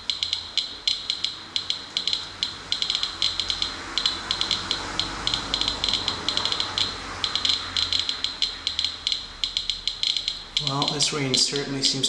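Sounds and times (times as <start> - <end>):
geiger counter clicking: 0.0 - 12.0.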